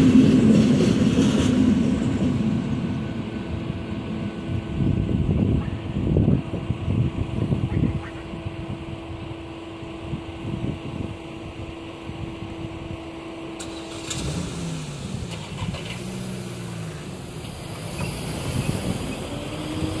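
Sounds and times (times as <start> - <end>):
low traffic rumble: 0.0 - 20.0
car engine running: 2.6 - 20.0.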